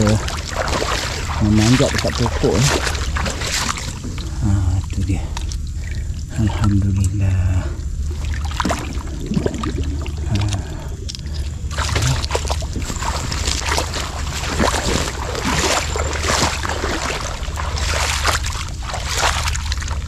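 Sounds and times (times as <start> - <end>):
water splashing from wading: 0.0 - 6.8, 8.0 - 20.0
steady low rumble: 0.0 - 20.0.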